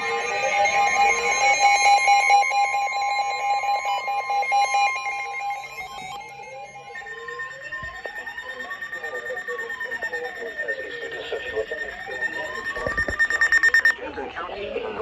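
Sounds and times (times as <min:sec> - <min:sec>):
gliding tone: 0:00.0 - 0:14.0
steady alarm tone: 0:00.0 - 0:14.0.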